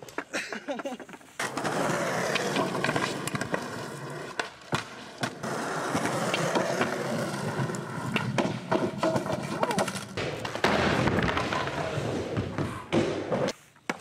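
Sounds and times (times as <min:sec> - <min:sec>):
skateboard clacks: 0:00.0 - 0:14.0
skateboard wheels rolling on concrete: 0:00.0 - 0:14.0.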